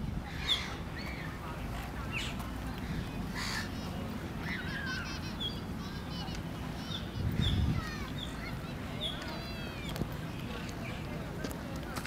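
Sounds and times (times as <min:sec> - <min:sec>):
gulls calling: 0:00.2 - 0:11.0.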